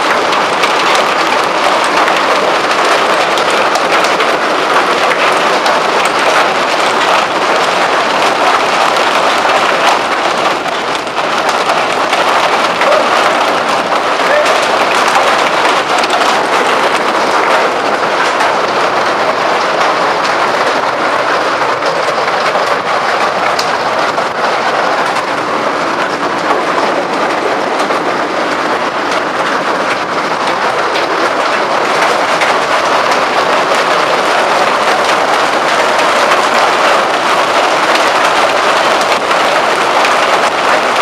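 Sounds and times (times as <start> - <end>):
hail clattering: 0.0 - 41.0.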